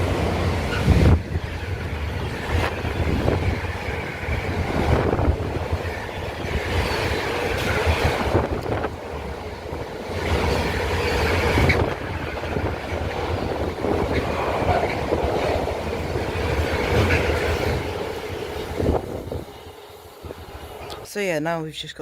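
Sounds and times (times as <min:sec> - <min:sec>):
train wheels on rails: 0:00.0 - 0:21.4.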